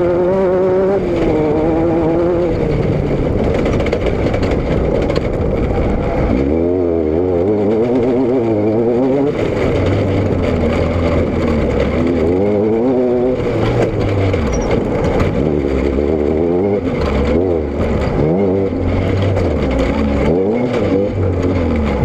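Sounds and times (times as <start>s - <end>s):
low rumble: 0.0s - 22.0s
vehicle engine revving: 0.0s - 22.0s.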